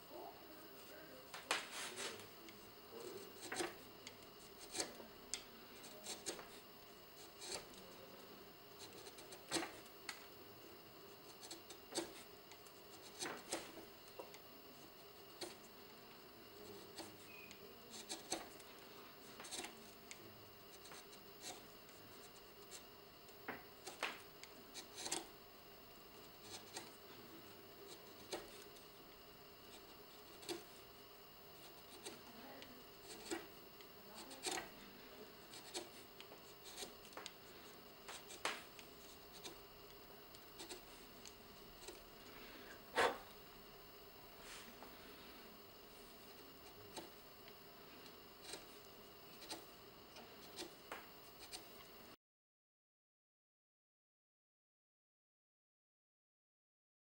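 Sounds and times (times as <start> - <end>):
gouge cutting wood: 1.6 - 10.2, 11.1 - 25.4, 26.1 - 43.4, 45.0 - 51.8.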